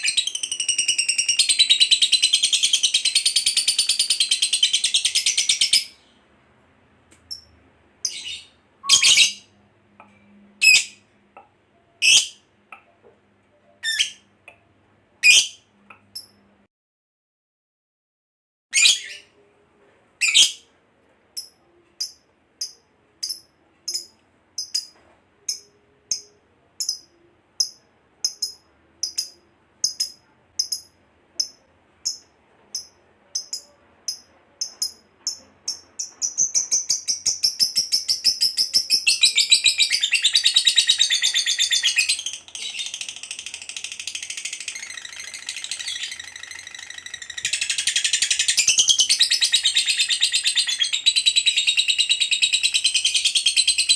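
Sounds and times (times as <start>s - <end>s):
lovebird chirping and trilling: 0.0s - 6.1s, 7.3s - 9.5s, 10.6s - 11.0s, 12.0s - 12.4s, 13.8s - 14.3s, 15.2s - 16.4s, 18.8s - 19.3s, 20.2s - 20.6s, 21.4s - 53.9s.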